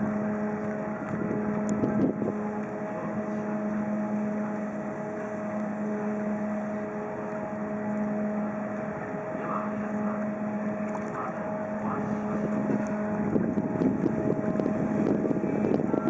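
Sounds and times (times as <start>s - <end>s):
rough rumbling noise: 0.0s - 16.0s
ship engine hum: 0.0s - 16.0s
wash of noise: 0.0s - 16.0s.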